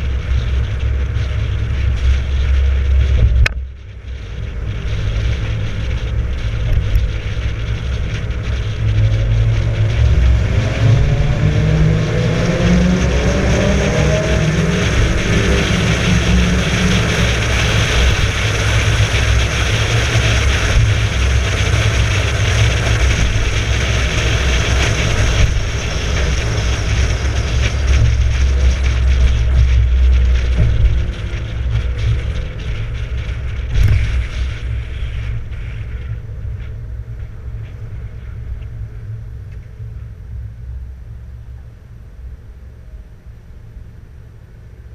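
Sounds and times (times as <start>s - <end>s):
car engine accelerating: 0.0s - 41.8s
road and wind noise: 0.0s - 44.9s.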